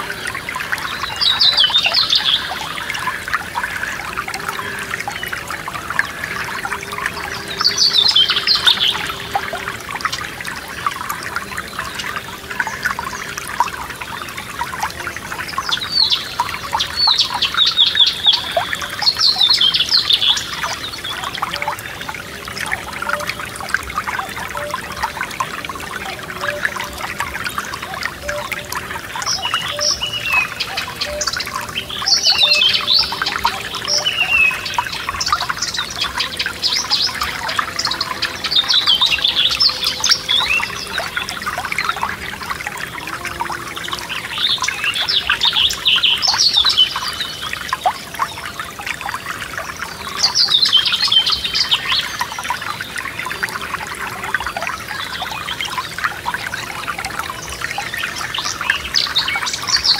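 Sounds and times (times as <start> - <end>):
songbirds singing: 0.0 - 59.9
stream burbling over stones: 0.0 - 59.9.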